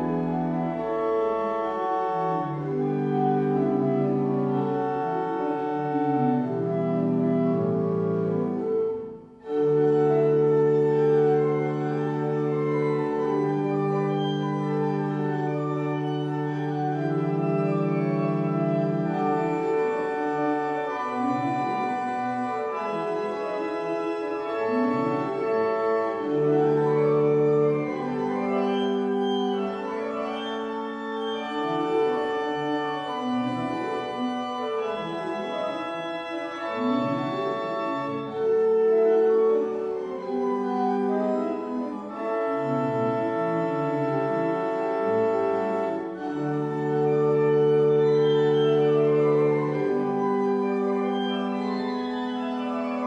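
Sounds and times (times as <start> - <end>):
pipe organ playing: 0.0 - 53.0.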